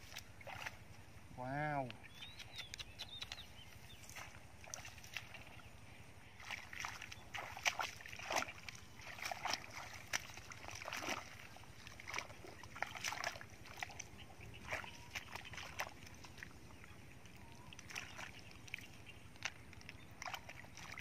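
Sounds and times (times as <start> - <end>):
feet sloshing through muddy water: 0.0 - 1.3, 3.4 - 21.0.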